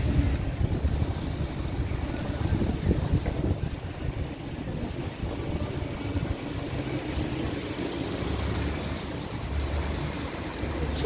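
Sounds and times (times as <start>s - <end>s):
road traffic rumble: 0.0s - 11.0s
wind buffeting microphone: 0.0s - 11.0s.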